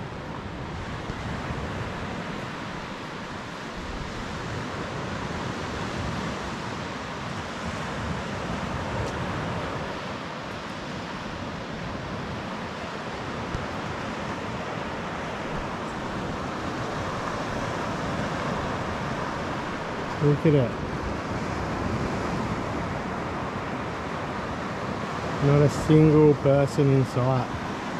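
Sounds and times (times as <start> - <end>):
waves washing onto beach: 0.0 - 27.9
wind buffeting microphone: 0.0 - 27.9.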